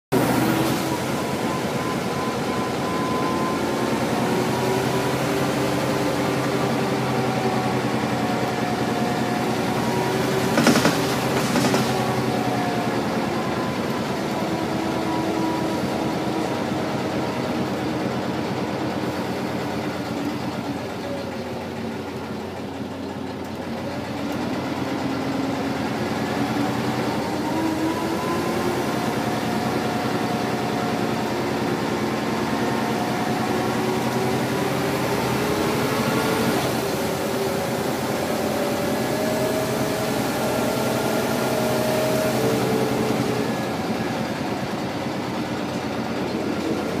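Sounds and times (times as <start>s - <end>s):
bus diesel engine: 0.0s - 47.0s.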